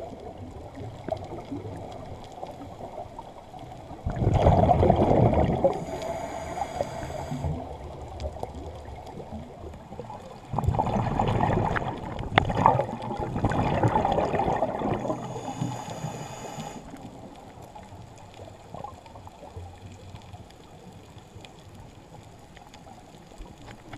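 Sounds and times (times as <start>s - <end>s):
steady water noise: 0.0s - 23.9s
underwater bubbling of exhaled breath: 0.0s - 23.9s.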